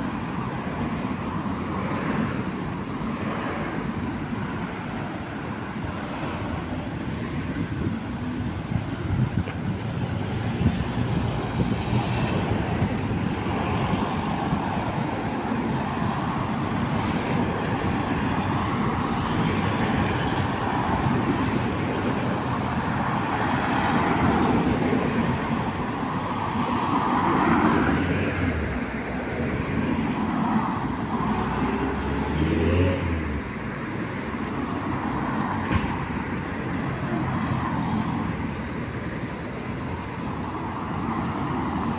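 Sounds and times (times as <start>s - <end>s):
cars passing by: 0.0s - 41.9s.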